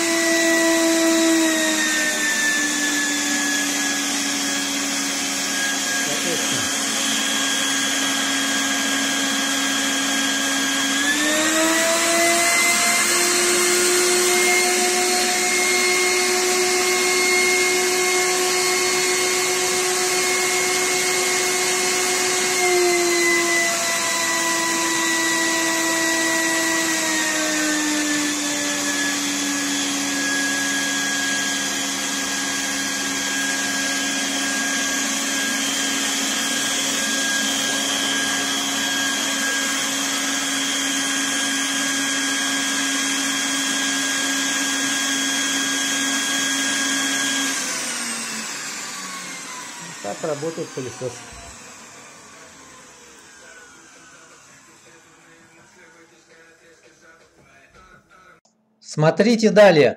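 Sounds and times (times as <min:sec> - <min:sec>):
vacuum motor whine: 0:00.0 - 0:57.2.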